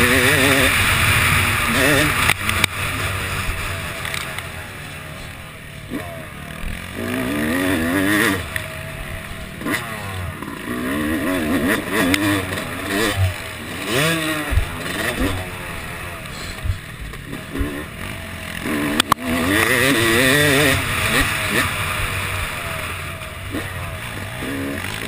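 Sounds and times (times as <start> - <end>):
motocross engine revving: 0.0 - 25.0.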